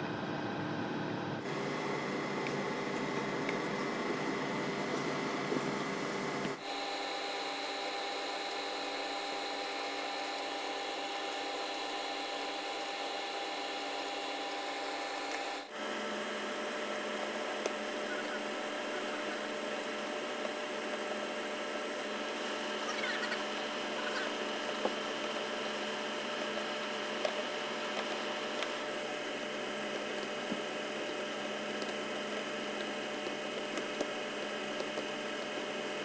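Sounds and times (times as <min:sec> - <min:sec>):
steady hum and hiss: 0:00.0 - 0:36.0.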